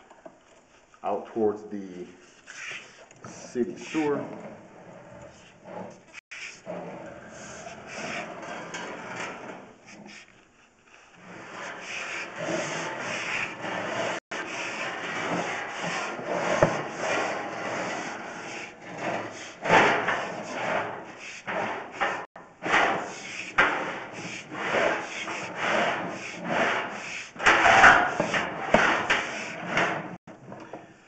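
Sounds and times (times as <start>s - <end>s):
cable rubbing and scraping: 2.2s - 30.2s.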